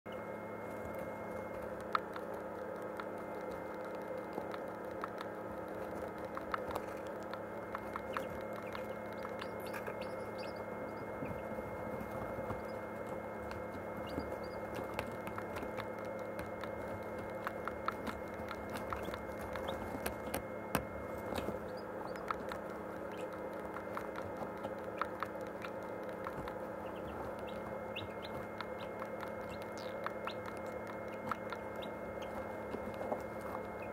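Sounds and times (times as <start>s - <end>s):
incubator humming: 0.1s - 33.9s.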